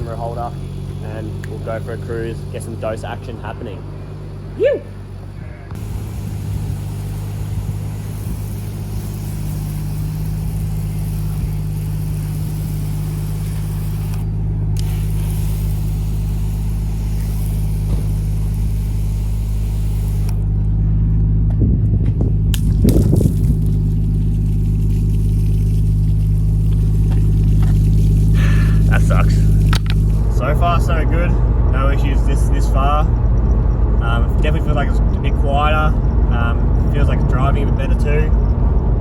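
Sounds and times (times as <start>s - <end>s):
car engine drone: 0.0s - 39.0s.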